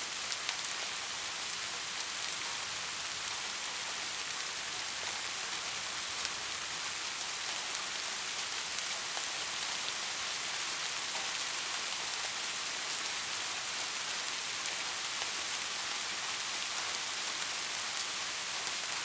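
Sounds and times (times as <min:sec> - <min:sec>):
white noise hiss: 0:00.0 - 0:19.0.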